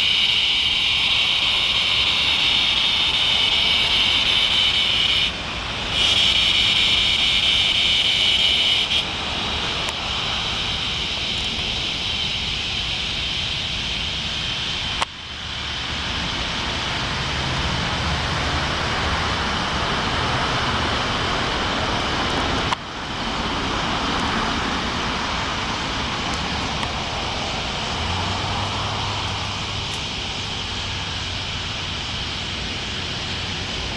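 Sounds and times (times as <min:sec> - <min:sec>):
cicadas buzzing: 0:00.0 - 0:33.9
soft wide hiss: 0:00.0 - 0:33.9.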